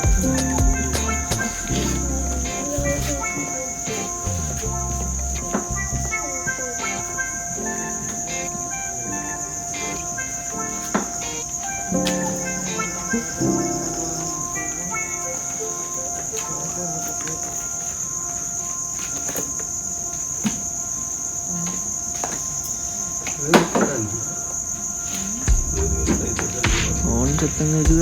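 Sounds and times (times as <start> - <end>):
crickets chirring: 0.0 - 28.0.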